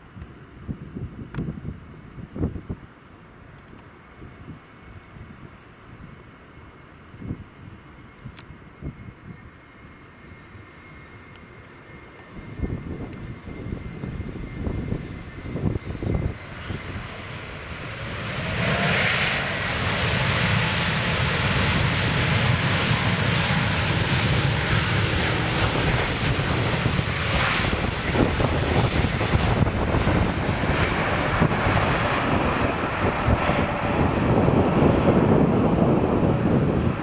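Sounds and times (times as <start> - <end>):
wind buffeting microphone: 0.0 - 3.0, 7.1 - 9.6, 12.2 - 37.0
jet airliner landing: 0.0 - 37.0.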